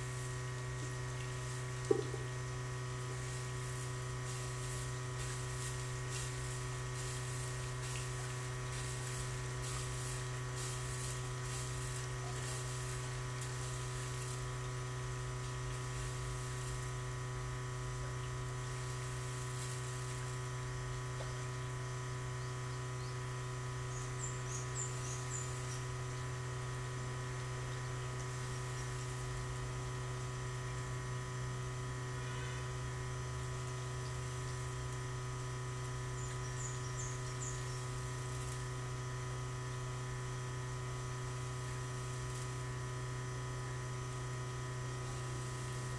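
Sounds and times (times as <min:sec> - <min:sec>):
steady electric hum: 0:00.0 - 0:45.9.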